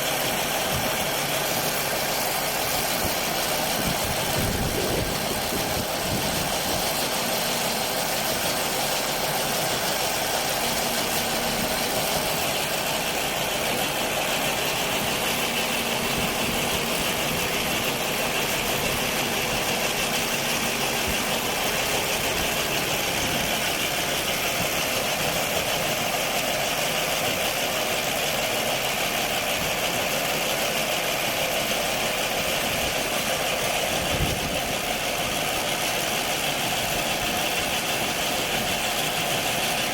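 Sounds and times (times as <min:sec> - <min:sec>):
harvesting machine running: 0:00.0 - 0:39.9.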